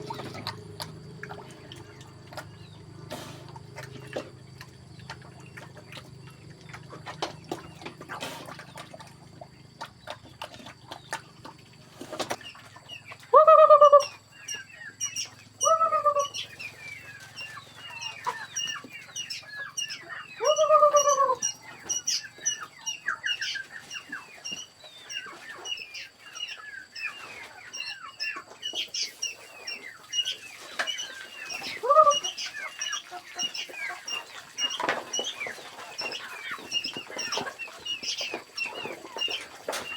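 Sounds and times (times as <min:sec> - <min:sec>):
chickens calling: 0:00.0 - 0:39.9.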